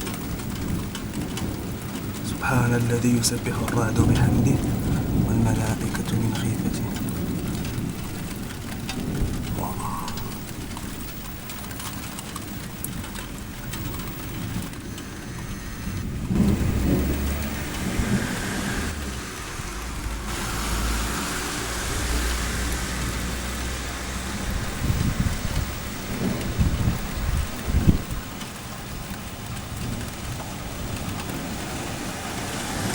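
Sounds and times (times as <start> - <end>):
steady rain falling: 0.0 - 32.9
thunder rumbling: 0.0 - 32.9.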